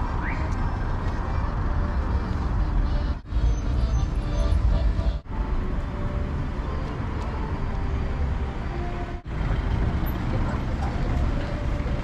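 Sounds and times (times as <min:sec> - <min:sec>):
hum of car traffic: 0:00.0 - 0:12.0.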